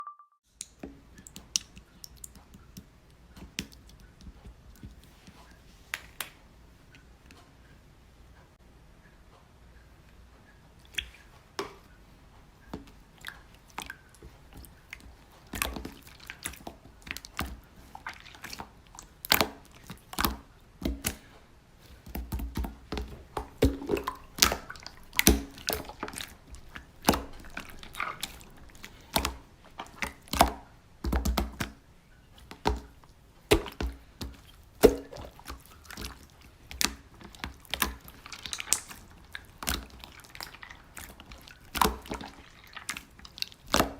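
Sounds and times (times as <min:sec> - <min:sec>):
slime squelching and popping: 0:00.6 - 0:05.1, 0:12.6 - 0:31.8, 0:32.4 - 0:43.9.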